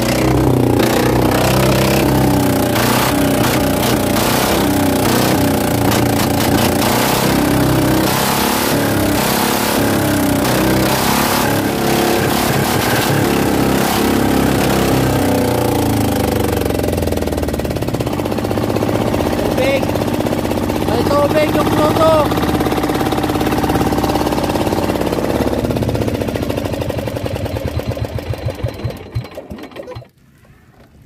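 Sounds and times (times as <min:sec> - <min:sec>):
small boat engine running: 0:00.0 - 0:30.2.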